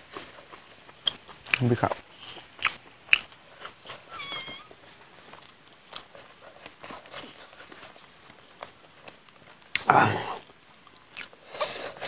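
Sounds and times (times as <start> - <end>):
man chewing with wet smacks: 0.0 - 12.0.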